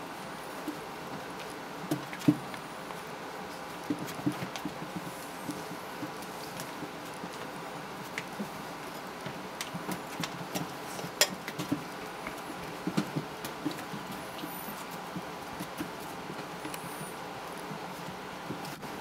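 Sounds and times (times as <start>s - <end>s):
puppies scuffling and scratching: 0.3s - 19.0s.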